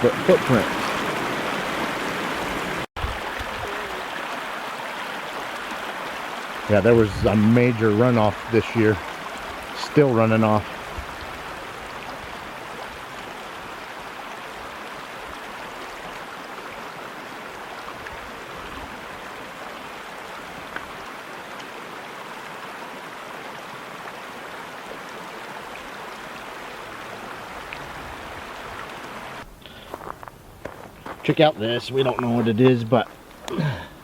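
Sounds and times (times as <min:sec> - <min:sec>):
creek water rushing: 0:00.0 - 0:34.0.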